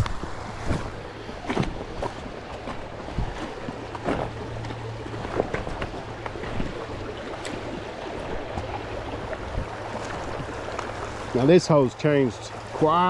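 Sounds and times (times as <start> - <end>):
river flowing: 0.0 - 13.0.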